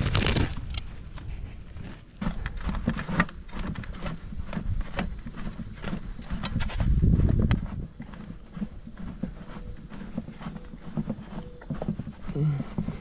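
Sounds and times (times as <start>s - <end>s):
carried gear knocking and rustling: 0.0s - 13.0s
footsteps walking: 0.0s - 13.0s.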